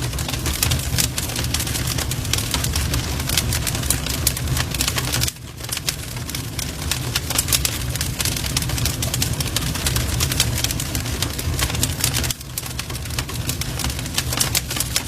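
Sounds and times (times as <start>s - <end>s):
fire popping and snapping: 0.0s - 15.0s
low rumble of flames: 0.0s - 15.0s.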